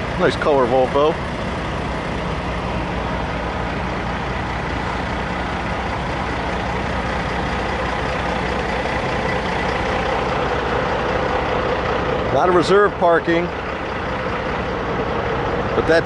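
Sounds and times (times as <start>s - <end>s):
diesel truck engines idling: 0.0s - 16.0s.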